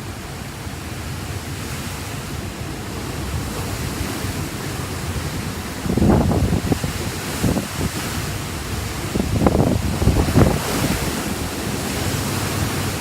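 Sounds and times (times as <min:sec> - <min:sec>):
strong wind blowing: 0:00.0 - 0:13.0
wind buffeting microphone: 0:00.0 - 0:13.0.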